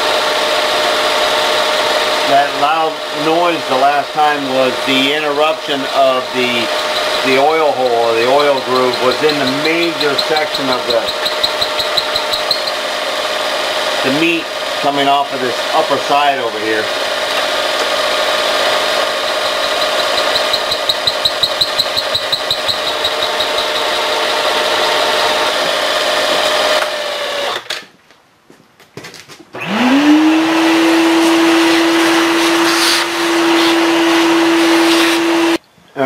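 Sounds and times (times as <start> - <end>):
milling machine cutting metal: 0.0 - 27.6, 29.6 - 35.6
shop vacuum whining: 0.0 - 27.8, 29.6 - 35.6.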